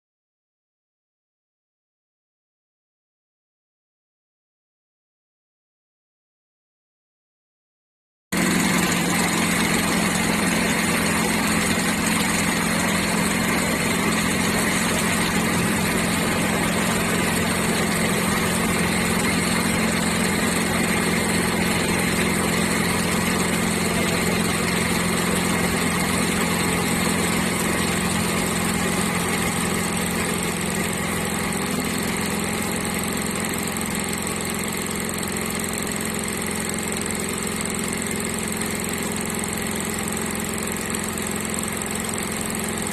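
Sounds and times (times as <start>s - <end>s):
winding machine motor hum: 8.4s - 42.9s.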